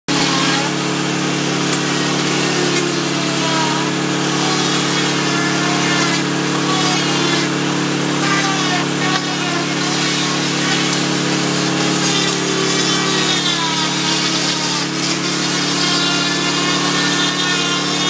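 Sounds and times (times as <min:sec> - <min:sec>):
paint stripper motor hum: 0:00.1 - 0:18.0.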